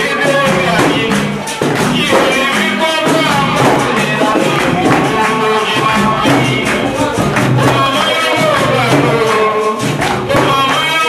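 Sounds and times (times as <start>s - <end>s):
percussion: 0.0s - 11.0s
rhythmic hand-clapping: 0.0s - 11.0s
voices singing: 0.0s - 11.0s.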